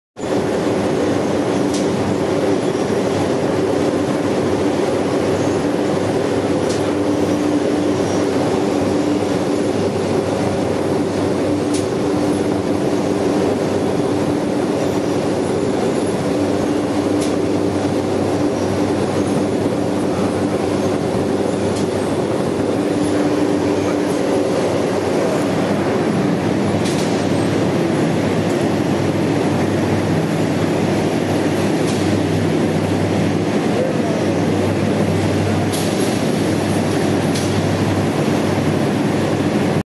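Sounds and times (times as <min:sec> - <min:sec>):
conveyor and machinery running: 0:00.2 - 0:39.8
low machine hum: 0:00.2 - 0:39.8.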